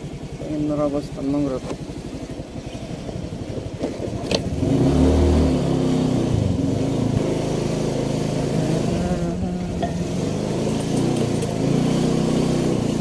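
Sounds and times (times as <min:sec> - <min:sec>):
small motorcycle engine: 0:00.0 - 0:13.0.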